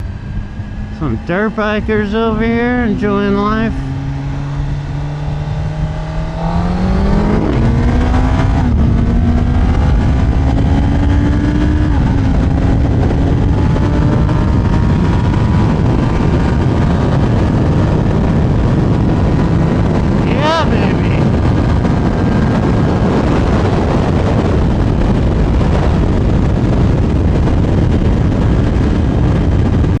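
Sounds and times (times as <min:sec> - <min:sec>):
motorcycle engine accelerating: 0:00.0 - 0:30.0
wind rush: 0:00.0 - 0:30.0.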